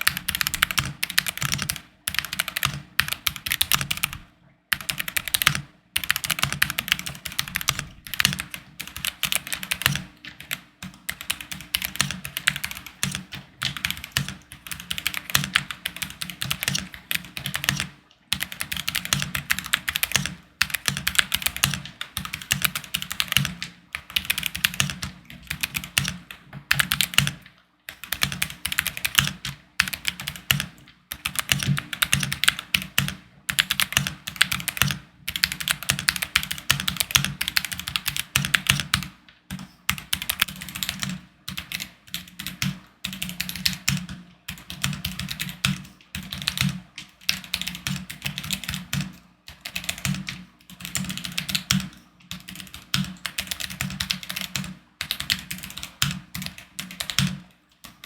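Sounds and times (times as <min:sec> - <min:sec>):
mechanical keyboard typing: 0:00.0 - 0:58.0.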